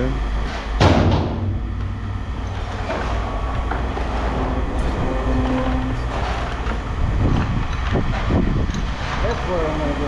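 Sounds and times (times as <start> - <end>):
machinery rumbling: 0.0 - 10.0.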